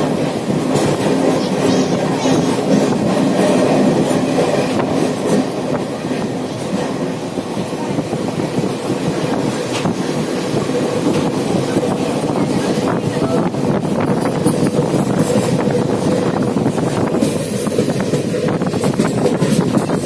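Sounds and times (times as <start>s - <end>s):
train knocks: 0.0s - 20.0s
train wheels rumbling on rails: 0.0s - 20.0s.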